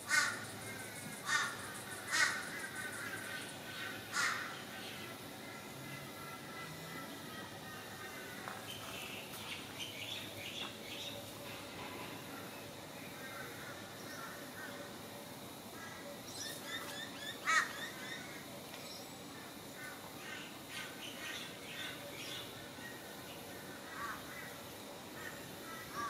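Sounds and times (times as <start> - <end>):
birds calling and chirping: 0.0 - 15.0, 15.8 - 24.6.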